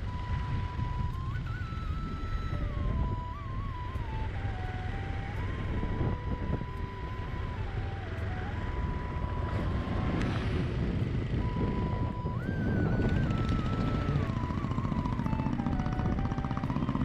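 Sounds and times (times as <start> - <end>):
motor scooter rumble: 0.0 - 17.0
thin background melody: 0.0 - 17.0
wind buffeting microphone: 0.0 - 17.0.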